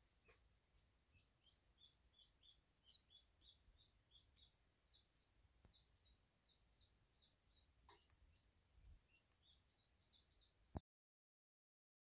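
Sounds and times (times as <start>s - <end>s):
quail chicks peeping: 0.0s - 10.8s.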